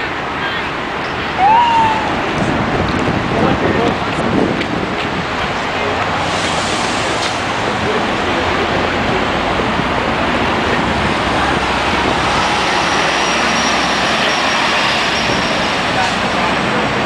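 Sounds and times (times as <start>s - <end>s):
bus engines running: 0.0s - 17.0s
road and tyre noise: 0.0s - 17.0s.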